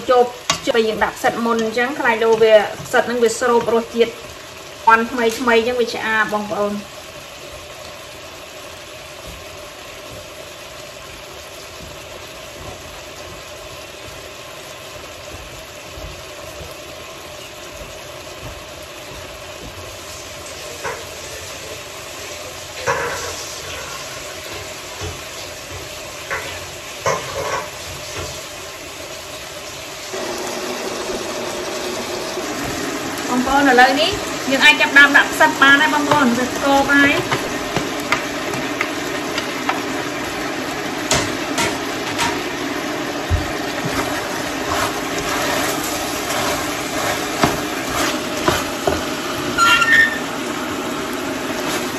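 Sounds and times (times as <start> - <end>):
pot simmering hiss: 0.0 - 51.9.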